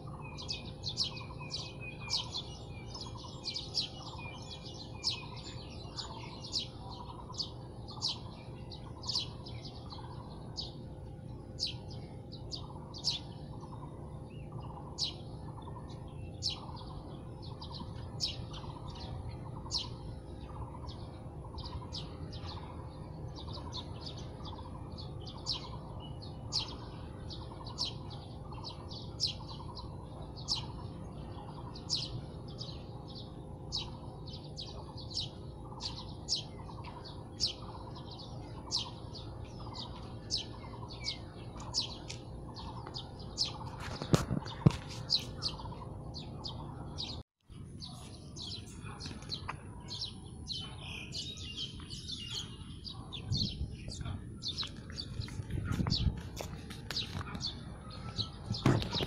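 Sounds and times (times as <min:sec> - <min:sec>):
low background rumble: 0:00.0 - 0:59.0
small birds chirping: 0:00.0 - 0:59.0.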